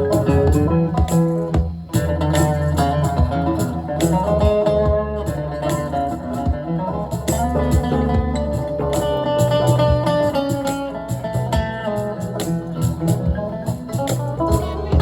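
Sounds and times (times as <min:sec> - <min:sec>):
bass: 0:00.0 - 0:15.0
drum hits: 0:00.0 - 0:15.0
guitar melody: 0:00.0 - 0:15.0.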